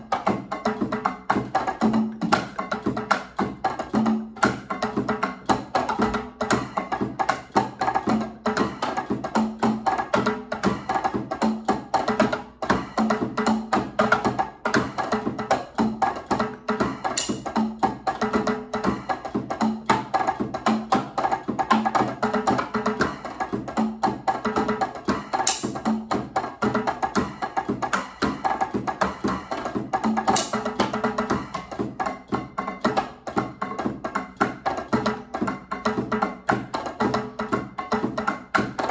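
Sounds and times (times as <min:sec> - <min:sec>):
electronic drum kit: 0:00.0 - 0:38.9.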